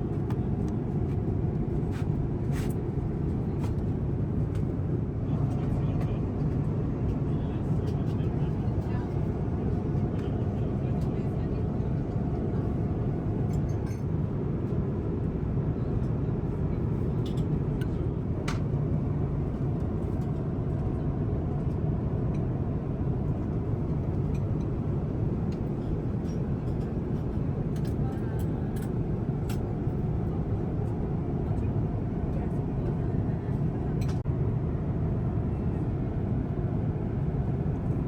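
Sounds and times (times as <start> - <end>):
airplane cabin noise: 0.0 - 38.0.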